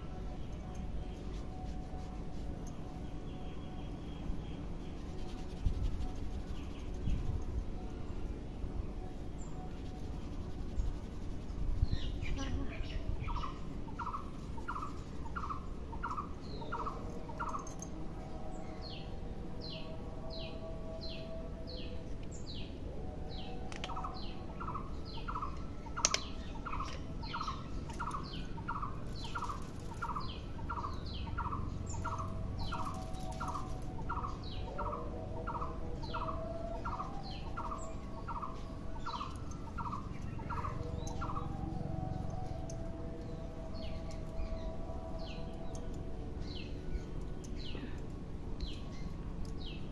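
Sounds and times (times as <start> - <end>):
bird chirping: 0.0 - 49.9
low background noise: 0.0 - 49.9.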